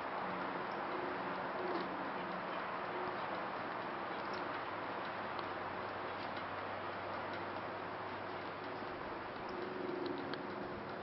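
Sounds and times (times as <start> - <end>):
faint ticks: 0.3 - 11.0.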